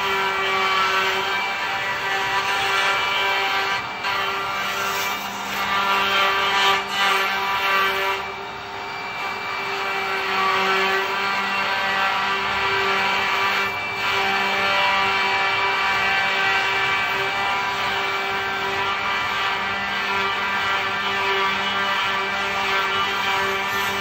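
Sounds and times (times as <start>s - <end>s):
router cutting wood: 0.0s - 24.0s.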